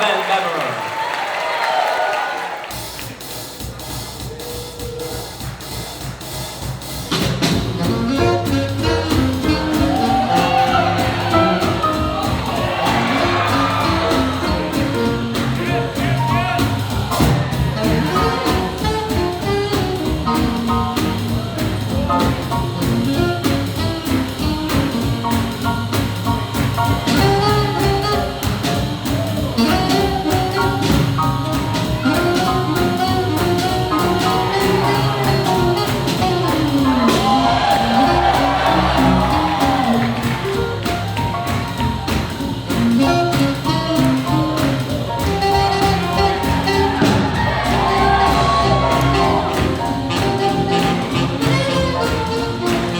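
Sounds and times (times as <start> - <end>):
swing jazz band playing: 2.6 - 52.9.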